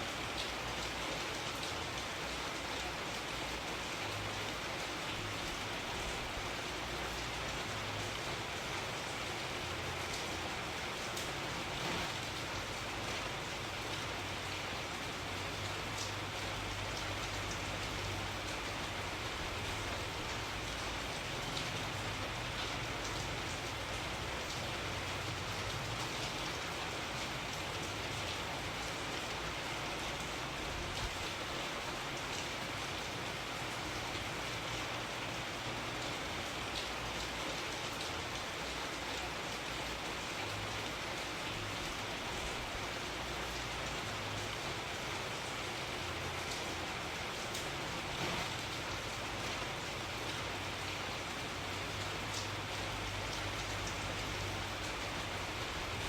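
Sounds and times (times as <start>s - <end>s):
rain hissing: 0.0s - 56.0s
raindrops pattering on a surface: 0.0s - 56.0s.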